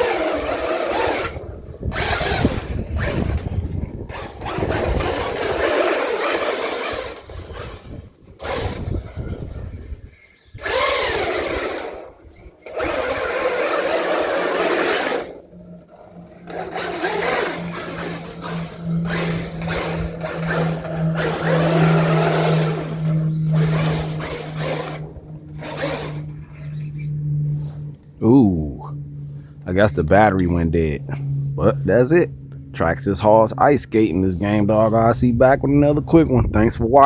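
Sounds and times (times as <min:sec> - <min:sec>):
electric motor whining: 0:00.0 - 0:37.0
steady low hum: 0:00.0 - 0:37.0.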